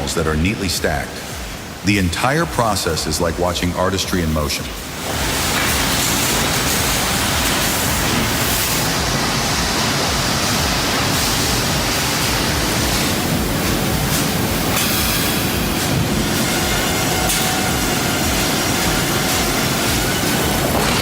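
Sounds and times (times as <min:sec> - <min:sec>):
sawmill machinery rushing noise: 0:00.0 - 0:21.0.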